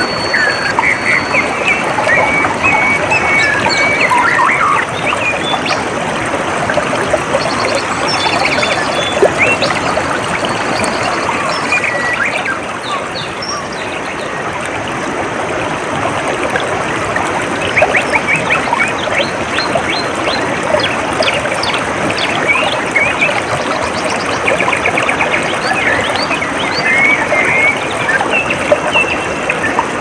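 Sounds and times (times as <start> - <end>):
birds chirping: 0.0 - 5.9, 6.8 - 14.5, 17.6 - 30.0
stream water trickling: 0.0 - 30.0.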